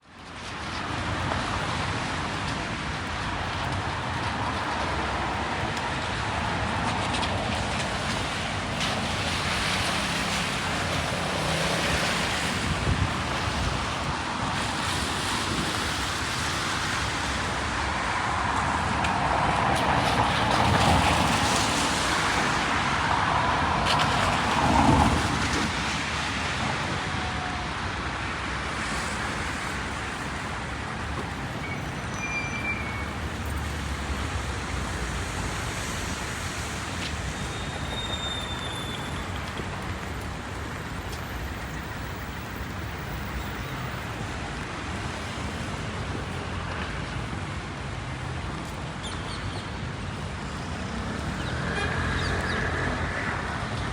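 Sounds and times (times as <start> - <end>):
cars passing on wet road: 0.0 - 53.9
steady rain on street: 0.0 - 53.9.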